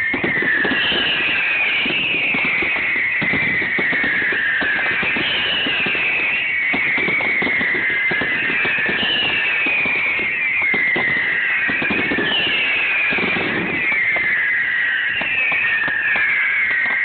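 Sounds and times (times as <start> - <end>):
firework whistles falling in pitch: 0.0 - 17.0.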